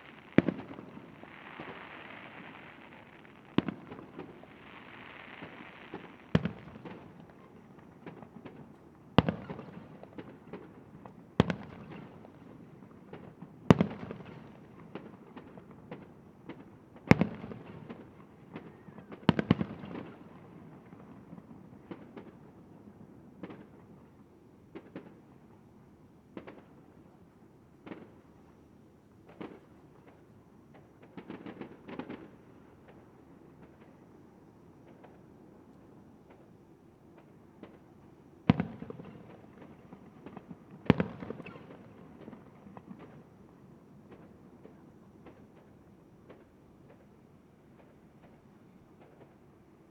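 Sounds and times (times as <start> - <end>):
small firework pops: 0.0 - 25.6, 26.3 - 27.2, 27.8 - 28.6, 29.2 - 49.9.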